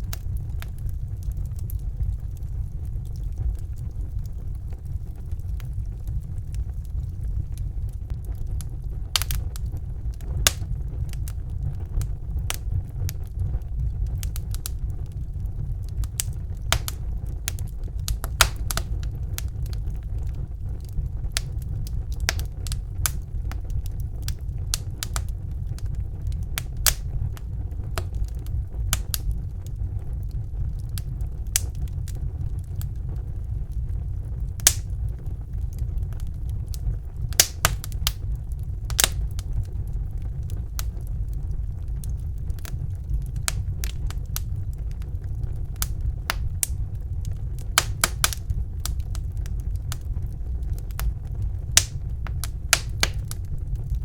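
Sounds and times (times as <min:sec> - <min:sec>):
low rumble of flames: 0:00.0 - 0:54.0
wood fire popping and crackling: 0:00.0 - 0:54.0.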